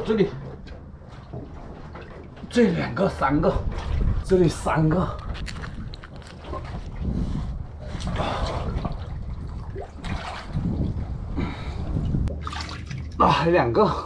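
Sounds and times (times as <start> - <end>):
seawater sloshing and trickling: 0.0 - 14.0.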